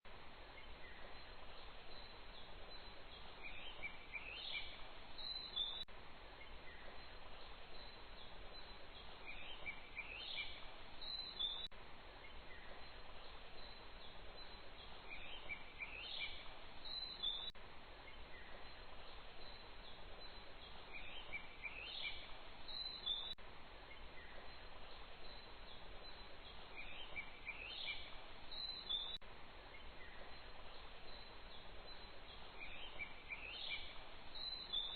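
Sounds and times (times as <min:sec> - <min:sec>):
steady hiss: 0:00.1 - 0:34.9
bird chirping: 0:00.4 - 0:34.9.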